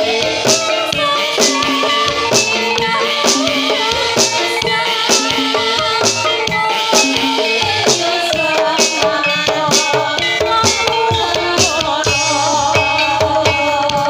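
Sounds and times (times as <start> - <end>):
drum strokes: 0.0 - 14.0.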